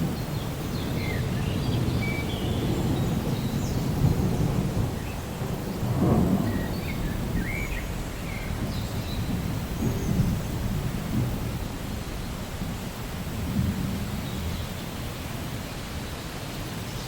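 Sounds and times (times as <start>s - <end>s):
low rolling rumble: 0.0s - 15.6s.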